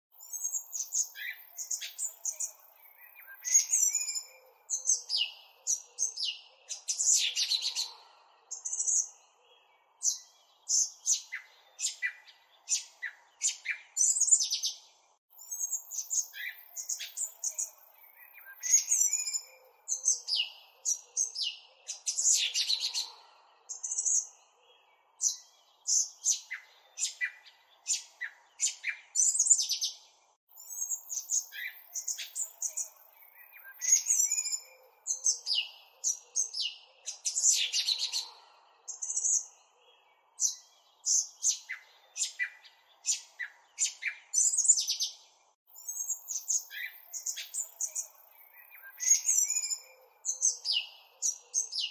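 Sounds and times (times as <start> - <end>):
small birds chirping and trilling: 0.1 - 51.9.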